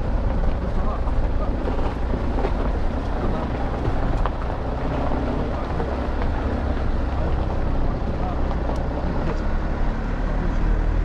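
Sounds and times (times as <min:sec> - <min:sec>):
car driving on gravel: 0:00.0 - 0:11.0.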